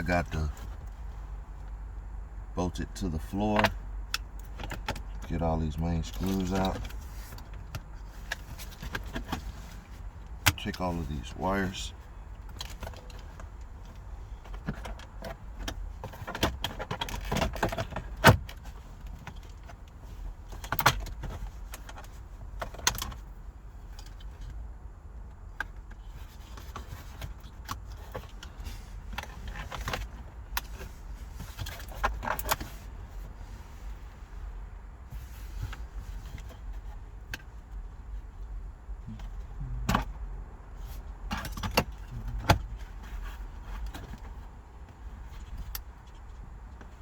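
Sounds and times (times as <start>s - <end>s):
hands working at gear shifter: 0.0s - 47.0s
low steady hum: 0.0s - 47.0s.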